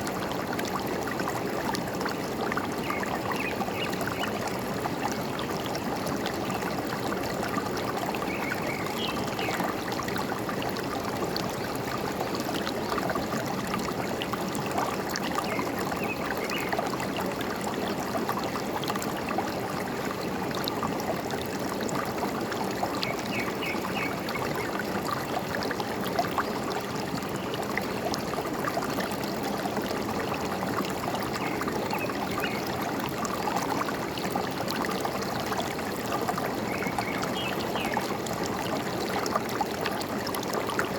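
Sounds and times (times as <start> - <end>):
forest stream trickling: 0.0 - 40.9.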